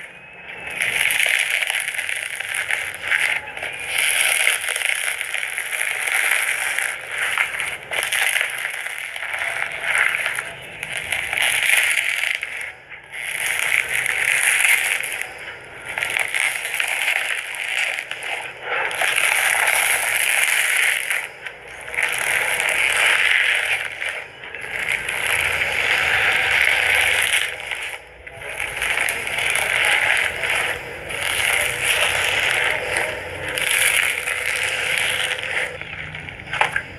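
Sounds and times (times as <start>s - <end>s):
foam slime crackling and popping: 0.0s - 36.9s.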